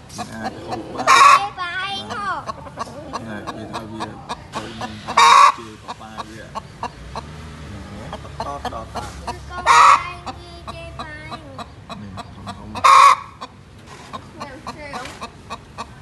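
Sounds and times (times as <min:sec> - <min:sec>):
chickens clucking: 0:00.0 - 0:16.0
chicken squawks: 0:00.1 - 0:07.4, 0:08.1 - 0:16.0.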